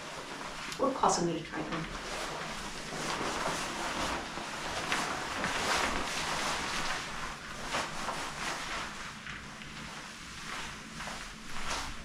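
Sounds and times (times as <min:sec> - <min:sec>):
jacket fabric rustling and swishing: 0:00.0 - 0:01.0, 0:01.6 - 0:12.0.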